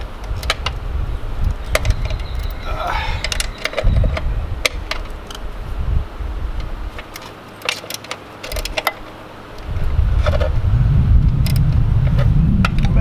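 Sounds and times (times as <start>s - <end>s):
wind buffeting microphone: 0.0s - 7.1s, 8.5s - 13.0s.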